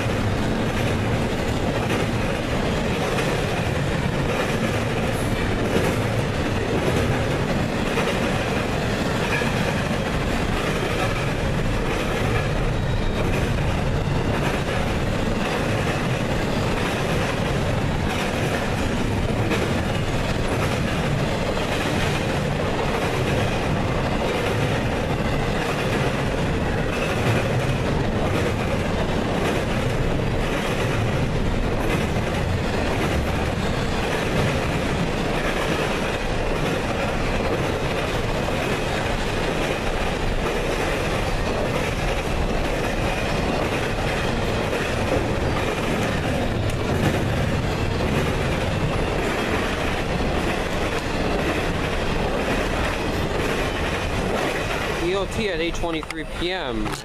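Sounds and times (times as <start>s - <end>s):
freight train wheels rumbling: 0.0s - 57.0s
wheels clicking over rail joints: 0.0s - 57.0s.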